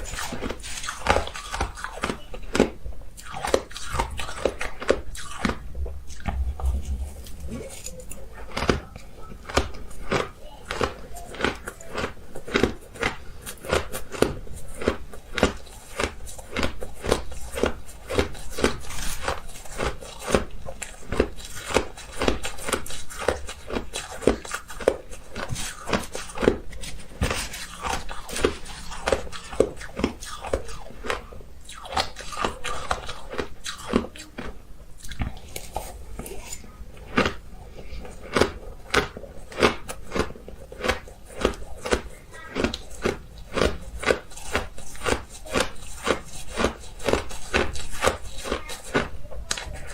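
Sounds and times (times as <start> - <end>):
ice being chewed: 0.0 - 49.9.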